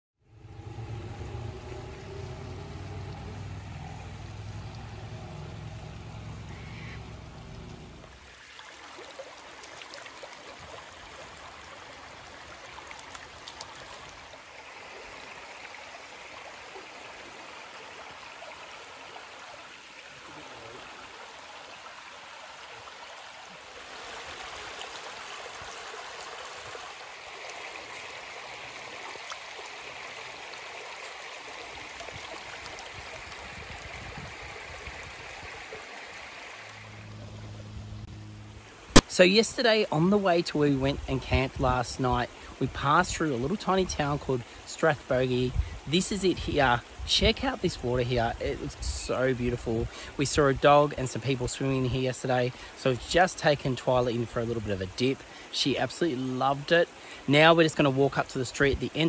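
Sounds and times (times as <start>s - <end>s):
creek water rushing over rocks: 0.3s - 59.0s.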